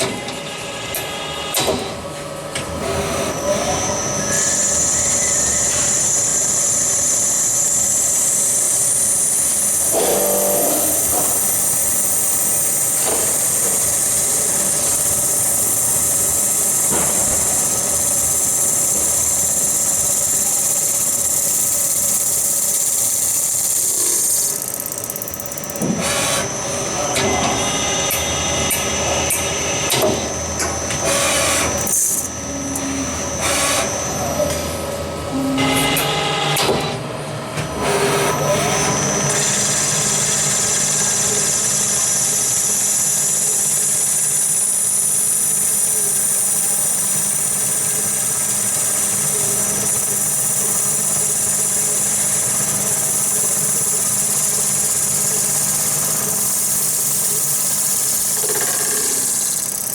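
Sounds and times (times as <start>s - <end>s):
small power tool running: 3.0s - 34.3s, 38.4s - 59.9s.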